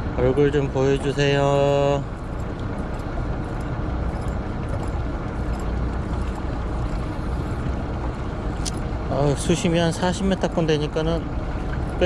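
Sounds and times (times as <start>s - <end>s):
boat engine running: 0.0s - 12.0s
water noise: 0.0s - 12.0s
wind: 0.0s - 12.0s.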